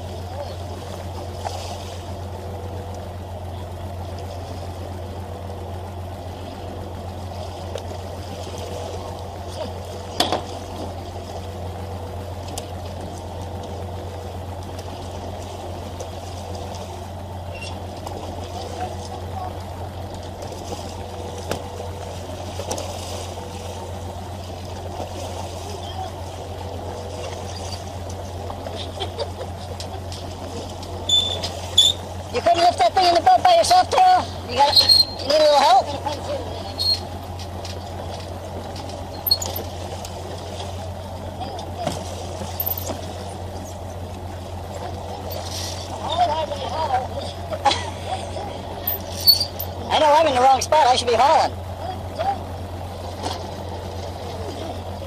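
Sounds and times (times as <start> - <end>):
water splashing against hull: 0.0 - 50.4, 51.3 - 55.0
boat engine idling: 0.0 - 55.0.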